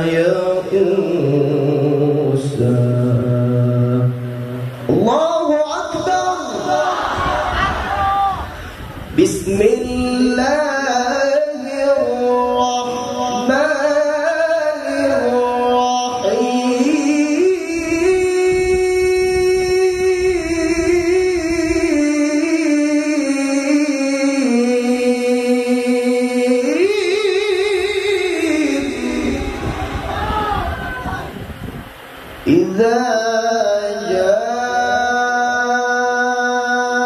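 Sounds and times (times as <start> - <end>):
man reciting melodically: 0.0 - 7.0, 9.2 - 30.1, 32.4 - 37.0.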